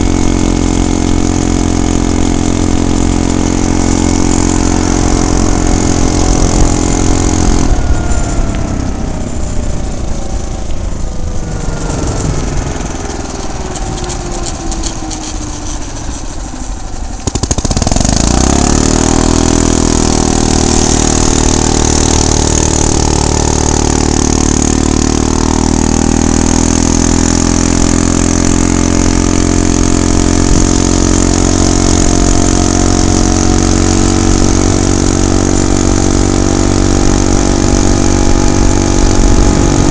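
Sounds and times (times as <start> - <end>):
small gasoline engine revving: 0.0 - 39.9.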